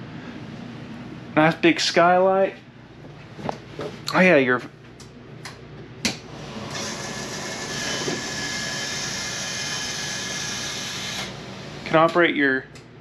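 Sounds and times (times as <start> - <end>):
vent fan whirring: 0.0 - 13.0.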